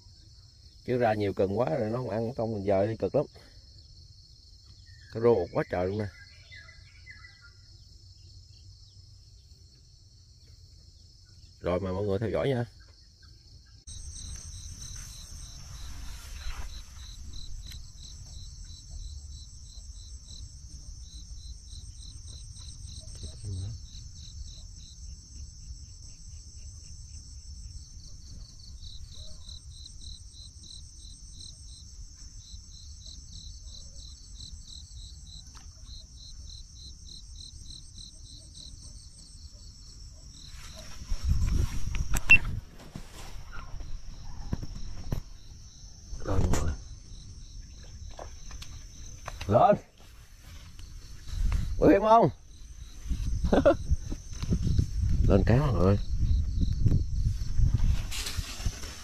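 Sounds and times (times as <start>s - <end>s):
insect chorus buzzing and chirping: 0.0s - 59.0s.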